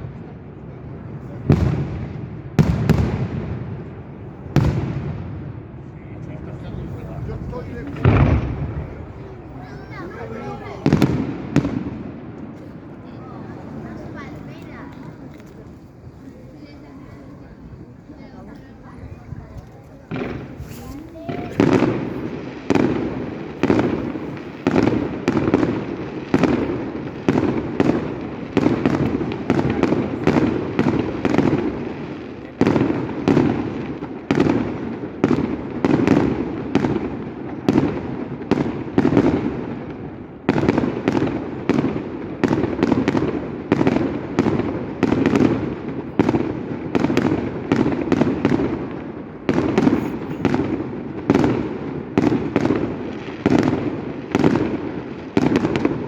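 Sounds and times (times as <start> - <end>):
fireworks bursting with loud bangs: 0.0 - 56.0.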